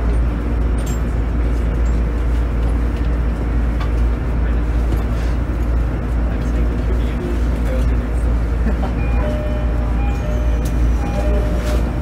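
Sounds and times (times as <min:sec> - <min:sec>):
deep engine drone: 0:00.0 - 0:12.0
wheel-on-rail rumble: 0:00.0 - 0:12.0.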